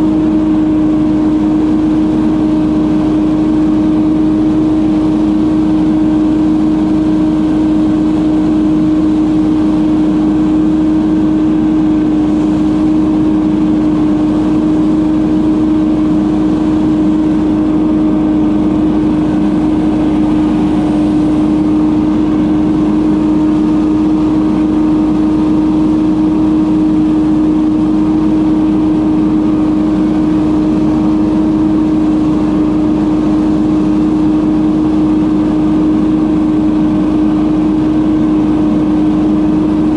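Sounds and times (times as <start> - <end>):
leaf blower running: 0.0 - 39.9.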